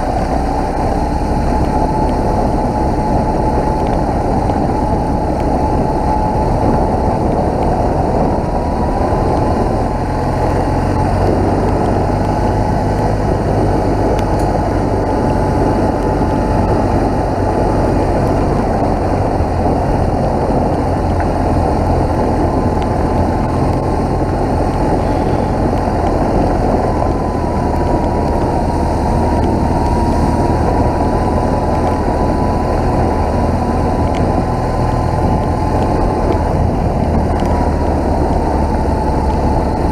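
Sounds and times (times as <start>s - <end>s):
motorcycle engine: 0.0s - 39.9s
rush of wind and road noise: 0.0s - 39.9s.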